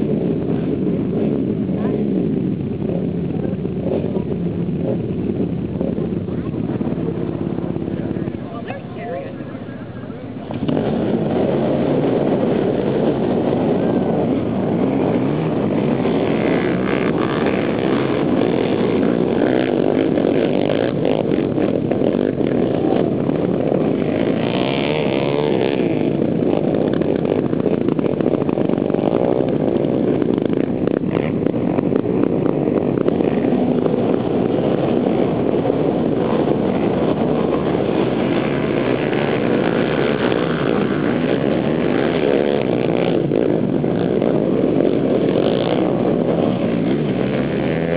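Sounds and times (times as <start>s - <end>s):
racing atv engines: 0.0s - 47.9s.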